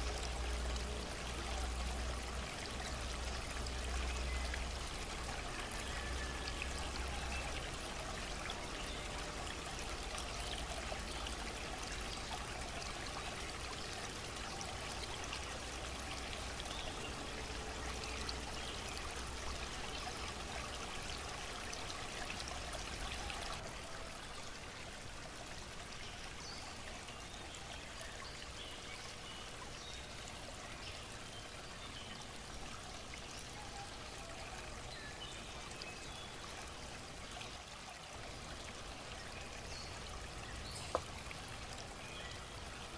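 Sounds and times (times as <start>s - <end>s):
stream water trickling and splashing: 0.0s - 42.9s.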